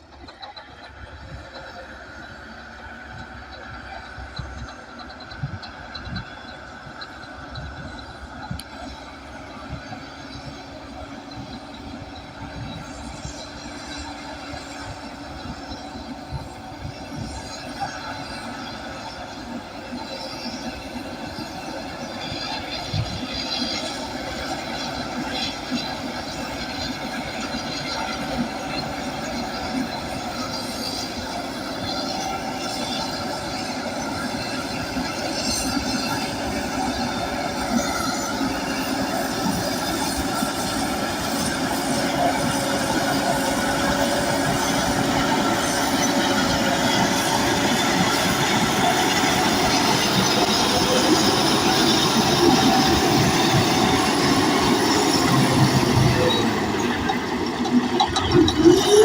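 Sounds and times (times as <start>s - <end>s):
diesel engine under load: 0.0s - 59.0s
steel tracks squealing and clanking: 0.0s - 59.0s.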